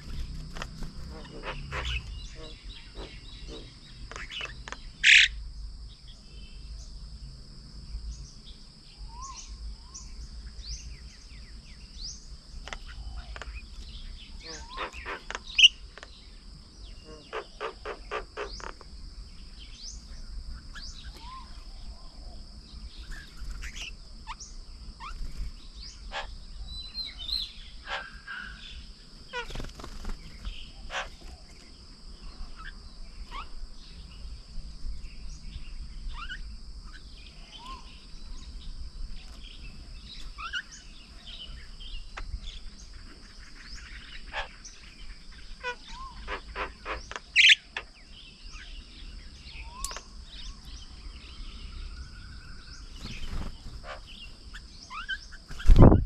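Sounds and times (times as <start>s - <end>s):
birds chirping and whistling: 0.0s - 5.4s, 9.0s - 18.8s, 19.4s - 34.3s, 35.2s - 56.0s
rapid bird chatter: 0.0s - 5.4s, 8.0s - 34.3s, 34.9s - 56.0s
outdoor background noise: 0.0s - 56.0s.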